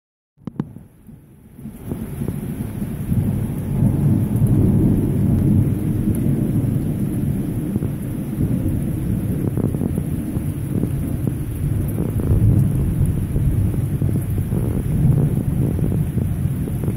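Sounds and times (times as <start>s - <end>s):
rolling thunder: 0.5s - 16.9s
heavy rain hissing: 1.6s - 16.9s.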